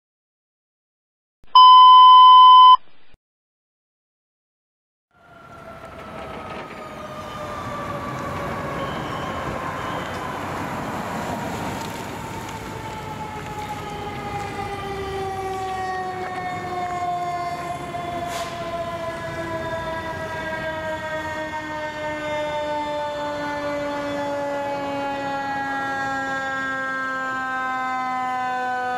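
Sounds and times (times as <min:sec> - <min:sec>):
fire siren wailing: 0:05.1 - 0:28.9
traffic rumble: 0:05.2 - 0:28.8.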